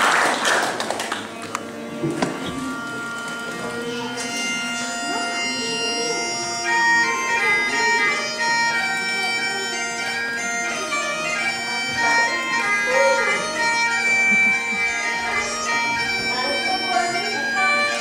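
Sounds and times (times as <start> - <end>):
bagpipes playing a dance tune: 1.0 - 18.0.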